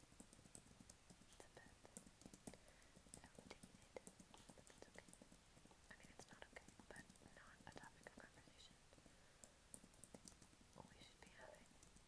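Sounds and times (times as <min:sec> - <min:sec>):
computer keyboard typing: 0:00.1 - 0:08.4, 0:09.7 - 0:12.0.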